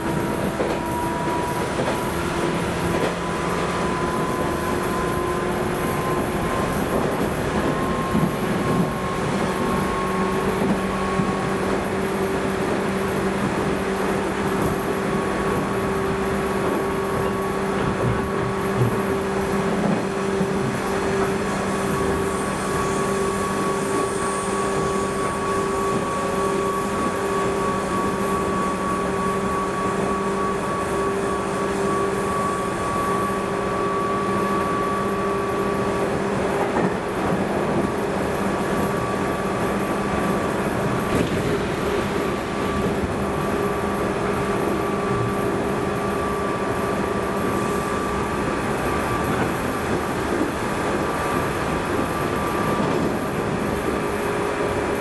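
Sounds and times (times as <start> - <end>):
train motor hum: 0.0 - 55.0
wheels rumbling on rail: 0.0 - 55.0.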